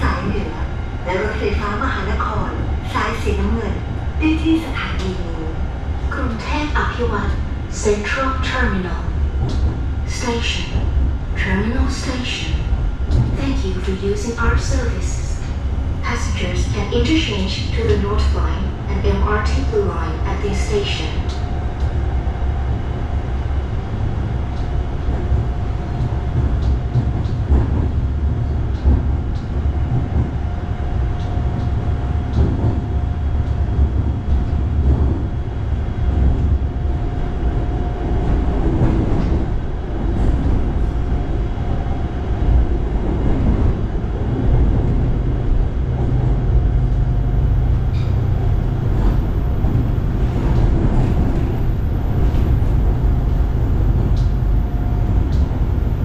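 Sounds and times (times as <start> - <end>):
train low rumble: 0.0 - 56.0.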